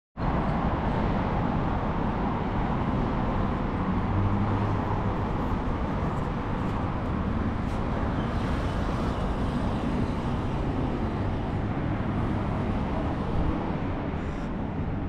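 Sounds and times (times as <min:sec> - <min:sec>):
road traffic rumble: 0:00.2 - 0:15.0.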